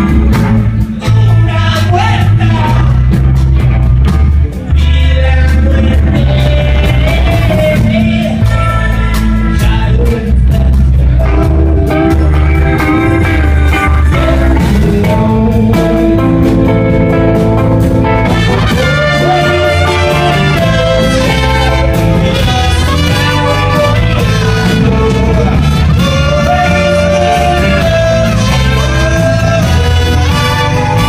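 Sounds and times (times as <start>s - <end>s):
bass: 0.0s - 31.0s
drum beat: 0.0s - 31.0s
guitar: 0.0s - 31.0s.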